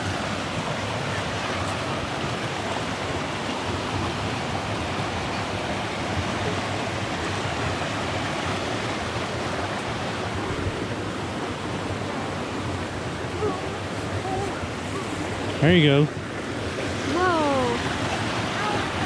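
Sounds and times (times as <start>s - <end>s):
waterfall rushing over rock: 0.0s - 19.0s.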